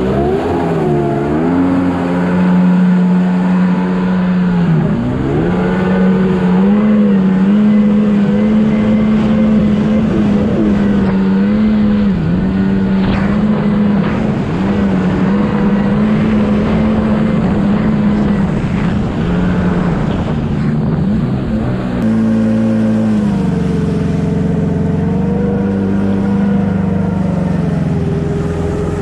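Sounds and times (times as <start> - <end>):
jet ski engine running: 0.0 - 29.0.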